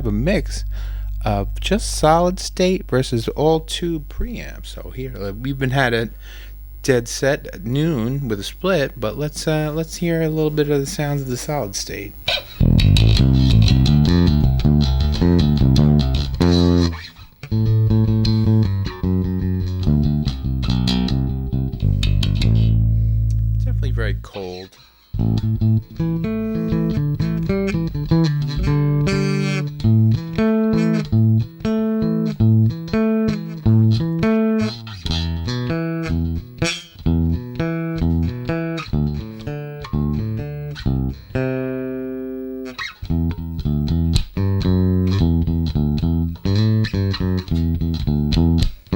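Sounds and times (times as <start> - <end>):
bass guitar playing quick notes: 0.0 - 5.9, 12.2 - 24.6, 25.2 - 48.9.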